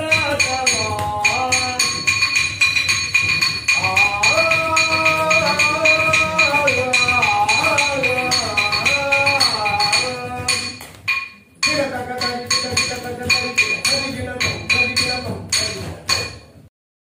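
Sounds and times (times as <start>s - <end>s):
person singing: 0.0s - 2.4s, 3.6s - 10.8s, 11.6s - 16.3s
hand cymbals clinking: 0.0s - 16.6s.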